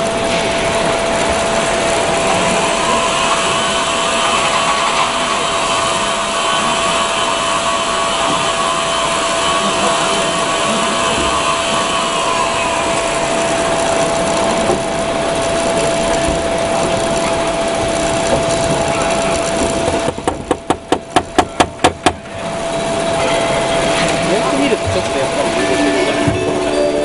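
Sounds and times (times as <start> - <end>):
machine whine: 0.0 - 27.0.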